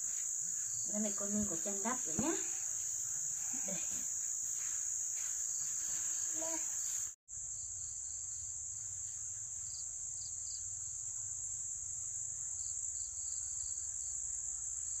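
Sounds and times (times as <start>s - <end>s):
insect chirps: 0.0s - 15.0s
insect high-pitched trill: 0.0s - 15.0s.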